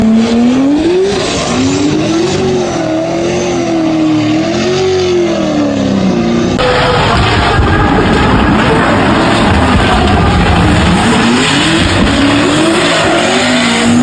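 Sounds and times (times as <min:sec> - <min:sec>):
car engines revving high: 0:00.0 - 0:14.0.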